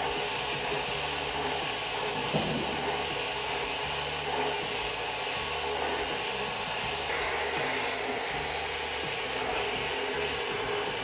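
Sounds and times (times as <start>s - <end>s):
hiss of compressed air blasting: 0.0s - 11.0s.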